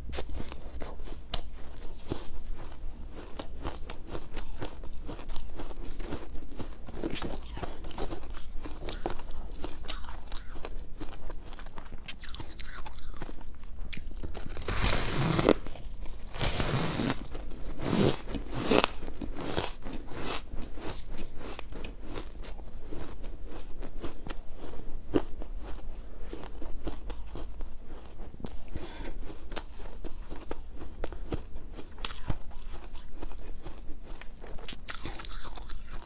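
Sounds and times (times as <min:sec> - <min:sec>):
person chewing crunchy frost: 0:00.0 - 0:36.0.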